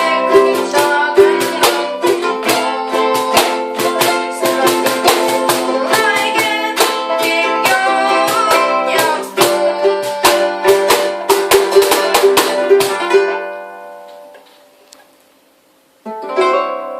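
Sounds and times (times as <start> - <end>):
ukulele strumming chords: 0.0 - 14.5, 16.0 - 16.9.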